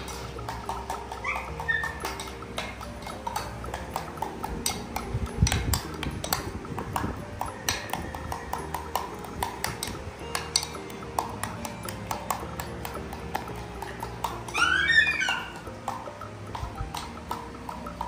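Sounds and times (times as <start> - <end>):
background music: 0.0 - 18.0
spoon clinking against a dish: 0.0 - 18.0.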